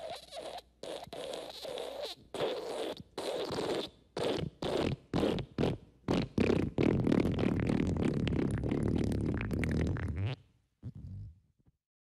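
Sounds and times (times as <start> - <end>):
fart sound effects: 0.0 - 11.4.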